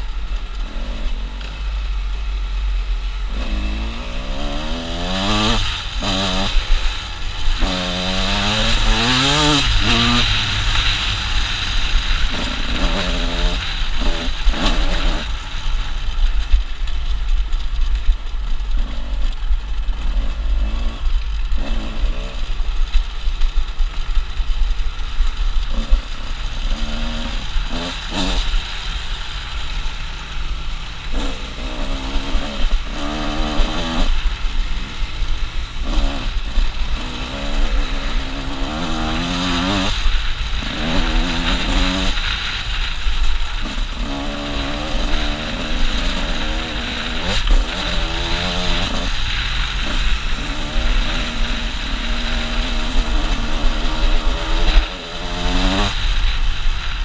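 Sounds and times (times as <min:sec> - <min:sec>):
dirt bike engine revving: 0:00.0 - 0:16.7, 0:18.5 - 0:57.0.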